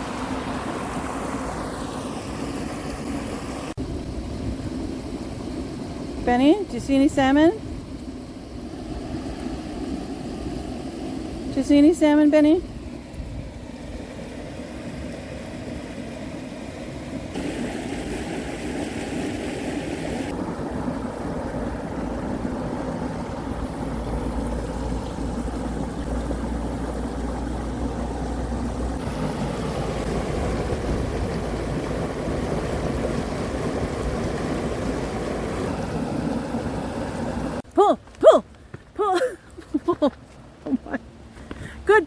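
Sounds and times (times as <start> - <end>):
water rushing over small dam: 0.0 - 12.1, 12.8 - 39.1.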